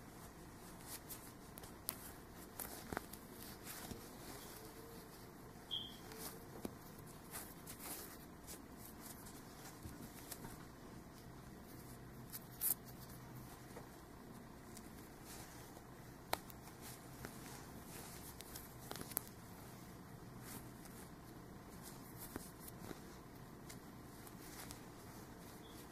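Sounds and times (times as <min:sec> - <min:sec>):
hands rustling yarn: 0:00.0 - 0:25.9.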